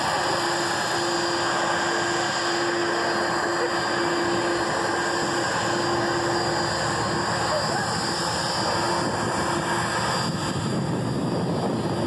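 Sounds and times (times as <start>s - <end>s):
jet engines running at low power: 0.0s - 12.0s.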